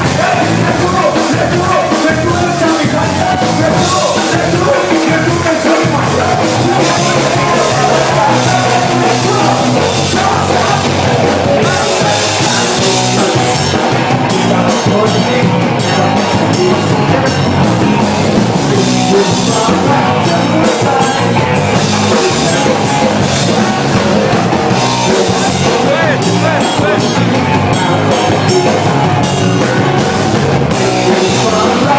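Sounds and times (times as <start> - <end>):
drums: 0.0 - 31.9
loud rock music: 0.0 - 31.9
person singing: 0.0 - 31.9.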